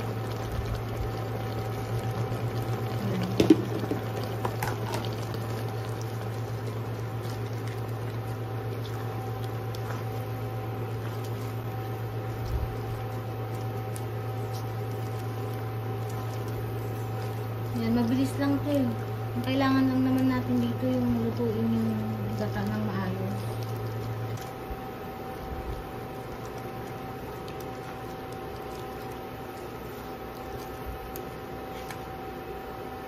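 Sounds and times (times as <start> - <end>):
liquid simmering in a wok: 0.0 - 33.0
low hum: 0.0 - 33.0
spatula stirring: 0.2 - 33.0.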